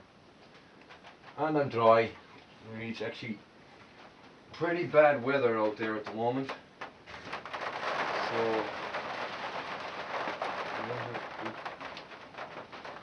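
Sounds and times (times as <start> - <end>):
rain on a roof: 0.0 - 13.0.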